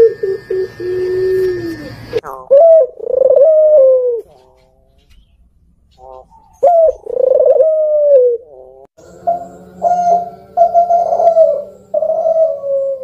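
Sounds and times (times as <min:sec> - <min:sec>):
doves cooing: 0:00.0 - 0:13.0
steady low hum: 0:00.0 - 0:13.0.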